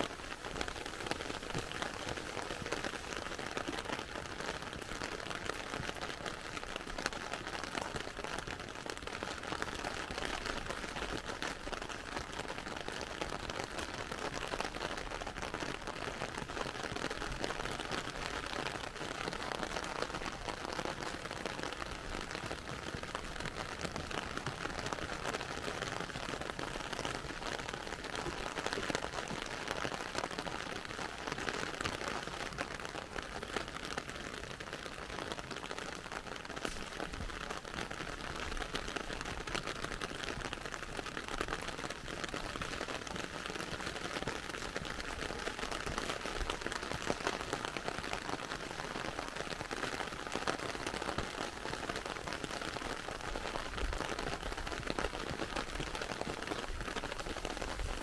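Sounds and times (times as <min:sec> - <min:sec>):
heavy rain on pavement and cars: 0:00.0 - 0:58.0.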